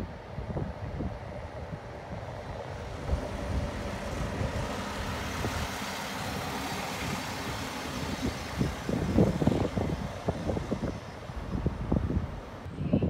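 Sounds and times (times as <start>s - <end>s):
diesel railcar rumbling past: 0.0s - 12.8s.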